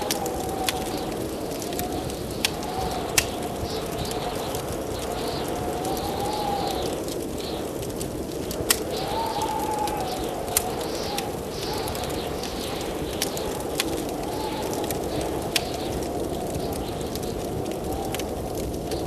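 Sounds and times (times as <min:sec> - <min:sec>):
wind howling and whistling: 0:00.0 - 0:19.0
wood fire popping and crackling: 0:00.0 - 0:19.0.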